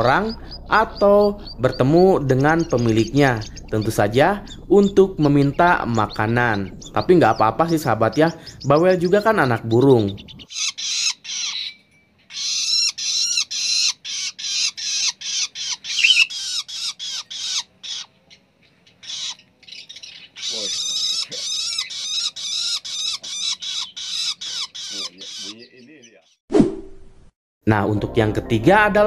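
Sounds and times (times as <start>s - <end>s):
bird chick harsh begging calls: 0.0s - 18.1s, 18.9s - 26.1s.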